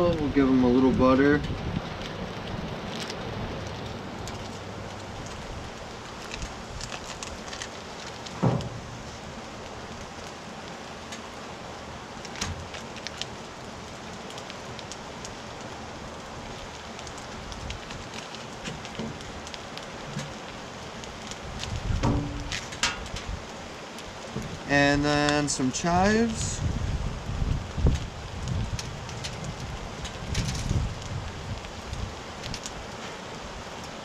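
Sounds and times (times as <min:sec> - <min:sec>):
fish sizzling on a griddle: 0:00.0 - 0:34.0.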